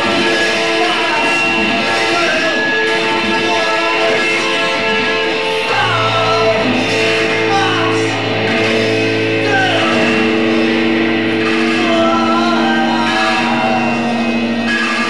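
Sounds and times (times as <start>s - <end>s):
person singing: 0.0s - 15.0s
punk rock band playing live: 0.0s - 15.0s.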